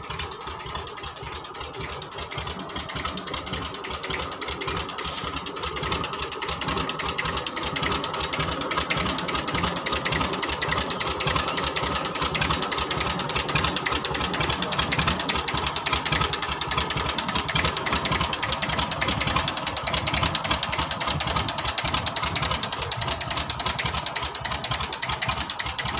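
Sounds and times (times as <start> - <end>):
tractor diesel engine idling: 0.0 - 25.9.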